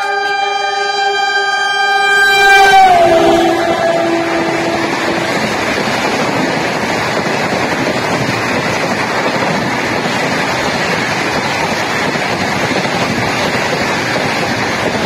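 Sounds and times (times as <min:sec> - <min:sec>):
train coaches rushing past: 0:00.0 - 0:15.0
wind buffeting microphone: 0:02.5 - 0:15.0.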